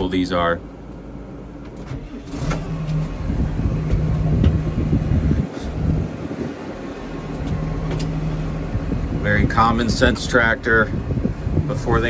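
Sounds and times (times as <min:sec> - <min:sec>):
diesel tractor engine humming: 0:02.3 - 0:12.0.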